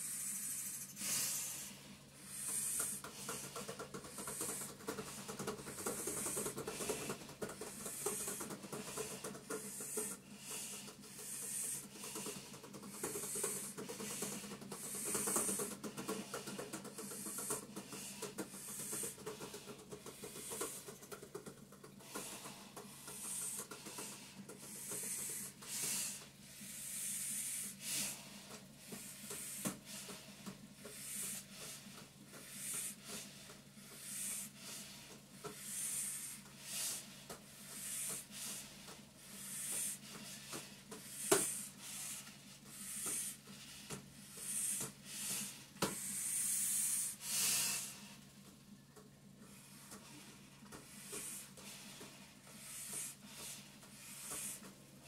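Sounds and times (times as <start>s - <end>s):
hard breathing through a mask: 0.0s - 48.5s, 49.3s - 55.0s.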